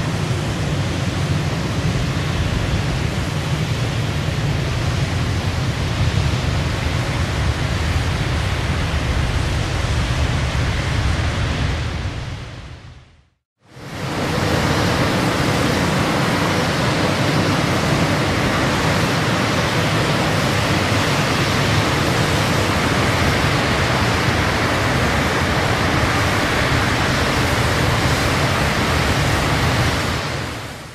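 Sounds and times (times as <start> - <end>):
steady rushing noise: 0.0 - 30.9.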